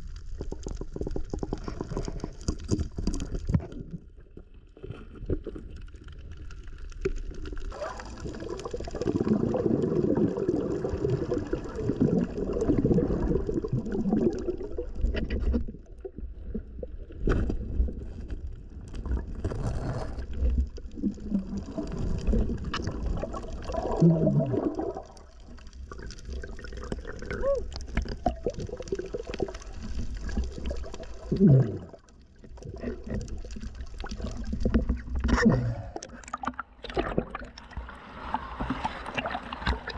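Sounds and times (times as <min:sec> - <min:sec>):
underwater gurgling and bubbling: 0:00.0 - 0:39.9.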